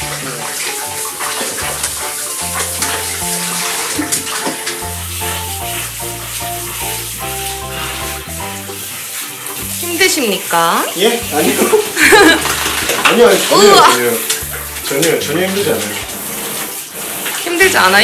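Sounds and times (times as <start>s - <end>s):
background music with bass notes: 0.0s - 10.3s, 11.0s - 16.6s
handheld shower running: 0.0s - 18.0s
water splashing in a bathtub: 0.0s - 18.0s.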